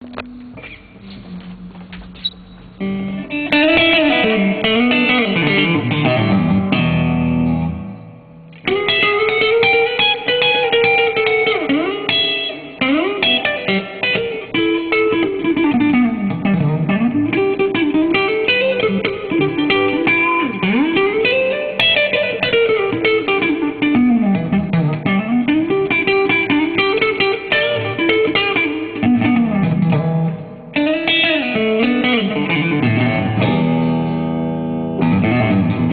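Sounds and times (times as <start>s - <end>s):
electric guitar picking: 0.0s - 35.9s.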